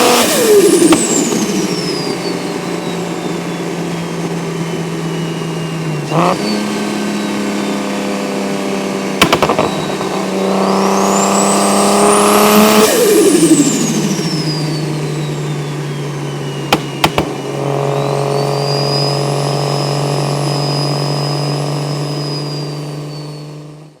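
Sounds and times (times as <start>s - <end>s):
car engine pulling under load: 0.0s - 23.9s
turbo whistle: 0.0s - 24.0s.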